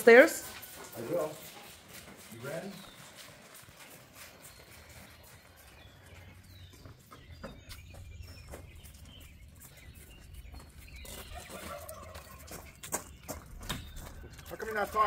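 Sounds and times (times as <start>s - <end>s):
bird chirp: 0.0s - 15.0s
dog paws clicking on concrete: 0.0s - 15.0s
footsteps on concrete: 0.0s - 15.0s.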